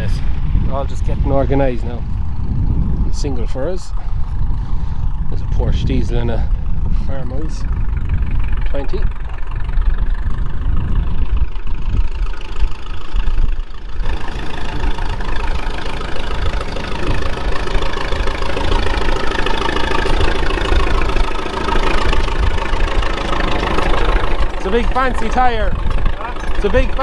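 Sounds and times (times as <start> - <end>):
tractor engine idling: 1.6 - 27.0.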